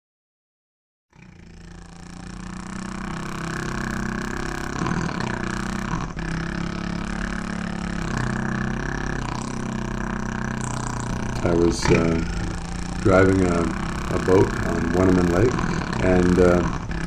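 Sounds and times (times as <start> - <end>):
outboard motor droning: 1.2 - 17.0.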